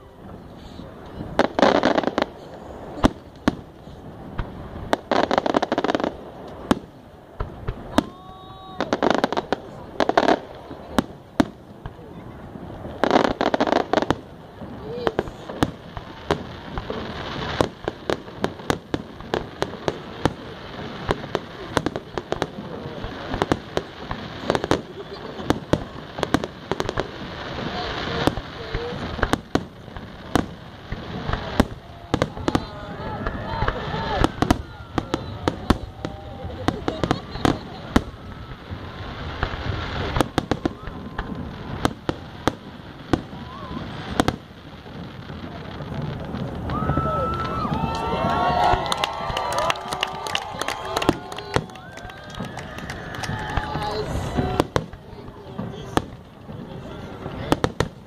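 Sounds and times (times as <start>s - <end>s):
fireworks rumble and crackle: 0.0s - 58.0s.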